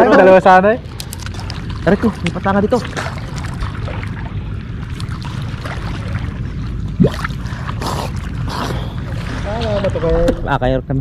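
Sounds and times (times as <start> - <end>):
small boat engine rumble: 0.0 - 11.0.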